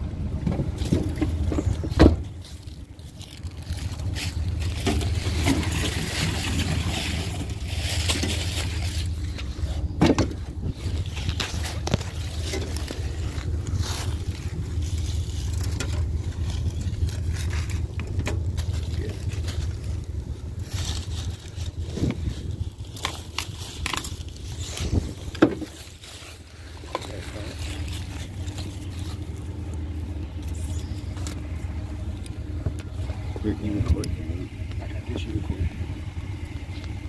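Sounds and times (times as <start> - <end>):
steady low hum: 0.0 - 37.0
rustling and scraping: 0.4 - 35.4
footsteps in dry leaves: 0.7 - 33.4.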